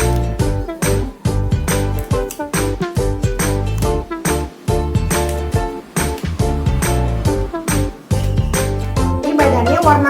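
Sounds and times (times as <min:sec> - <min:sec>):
upbeat music with bass line: 0:00.0 - 0:10.0.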